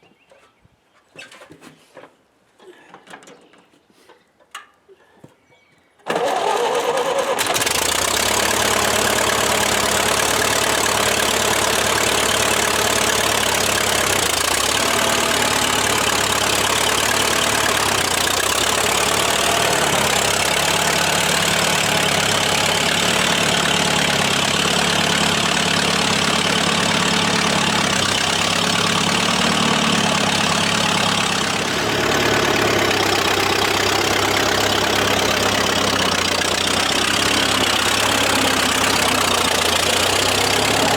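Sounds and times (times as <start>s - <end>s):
old engine running: 6.1s - 40.9s.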